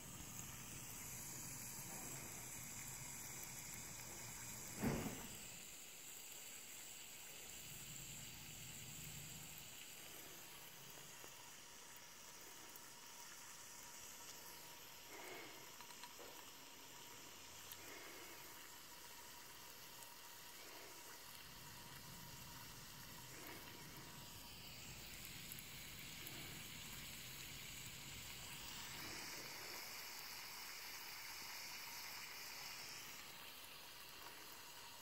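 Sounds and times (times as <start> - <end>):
fizzing hiss of bubbles: 0.0 - 35.0.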